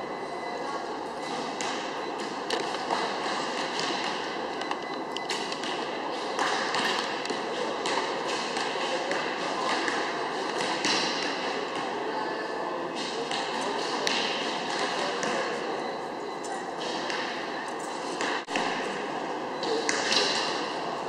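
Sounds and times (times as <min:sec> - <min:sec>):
background murmur: 0:00.0 - 0:21.0.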